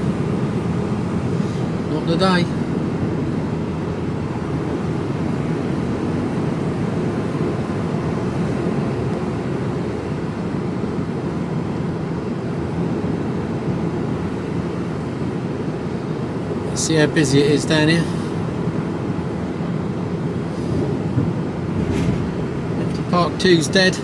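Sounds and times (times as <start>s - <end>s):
lorry cab engine drone: 0.0s - 24.0s.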